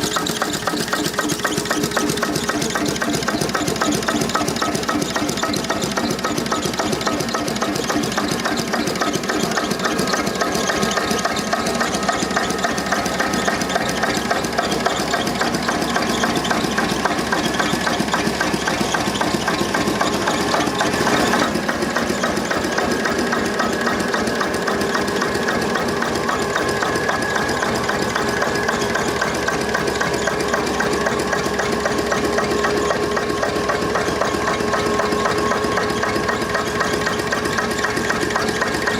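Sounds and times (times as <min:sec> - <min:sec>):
old engine running: 0:00.0 - 0:38.9.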